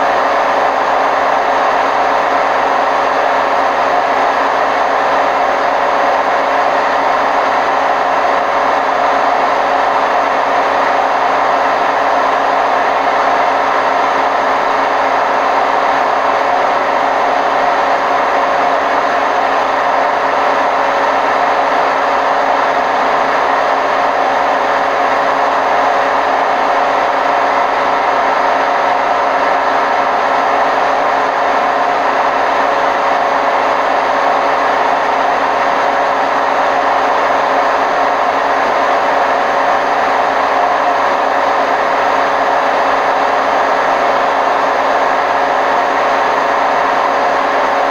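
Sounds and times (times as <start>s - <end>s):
washing machine spinning: 0.0s - 47.9s.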